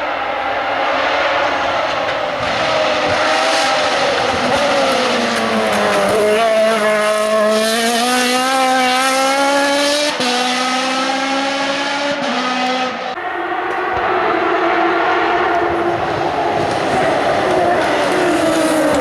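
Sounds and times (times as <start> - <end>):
racing car engine accelerating: 0.0 - 19.0.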